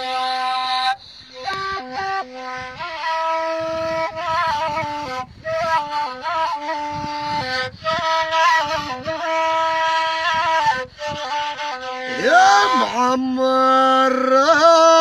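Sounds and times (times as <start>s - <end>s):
cane flute melody: 0.0s - 15.0s.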